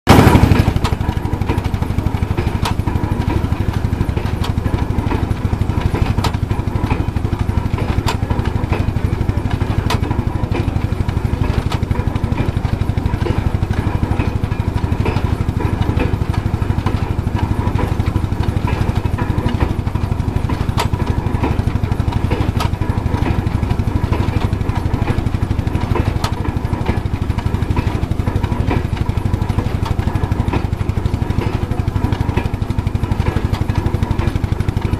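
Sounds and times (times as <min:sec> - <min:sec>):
threshing machine running: 0:00.1 - 0:34.9.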